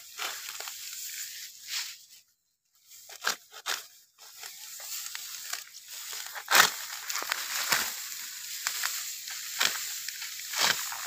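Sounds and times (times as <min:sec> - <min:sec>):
sickle cutting dry stalks: 0:00.0 - 0:02.0, 0:02.9 - 0:11.0
rustle of dry straw: 0:00.0 - 0:11.0.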